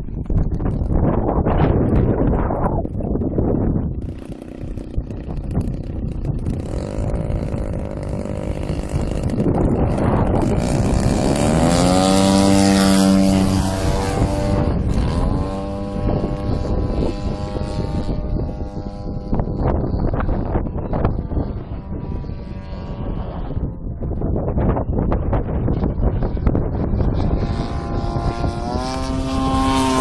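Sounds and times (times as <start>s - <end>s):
model plane engine and propeller: 0.0s - 30.0s.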